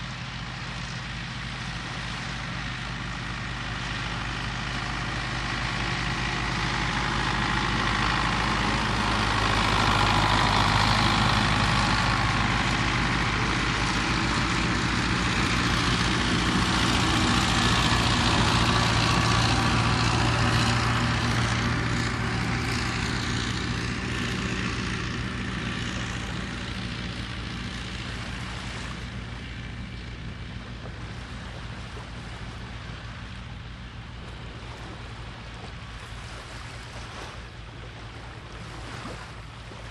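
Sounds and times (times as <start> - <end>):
motor engine humming: 0.0 - 39.9.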